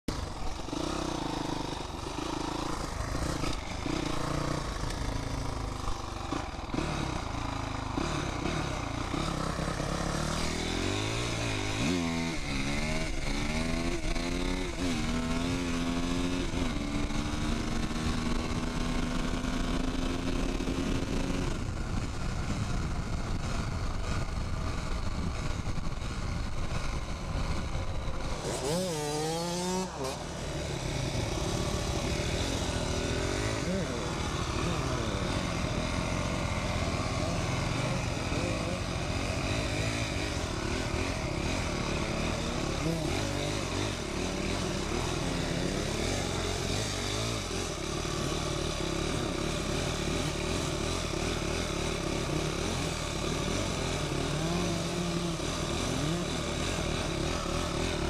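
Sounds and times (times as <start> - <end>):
dirt bike engine revving: 0.1 - 22.1, 23.5 - 58.0.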